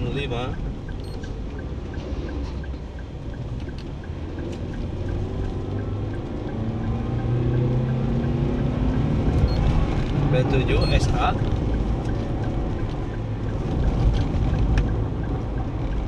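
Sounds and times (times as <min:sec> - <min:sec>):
car engine from inside cabin: 0:00.0 - 0:16.0
faint regular ticking: 0:00.0 - 0:16.0
road rumble: 0:00.0 - 0:16.0.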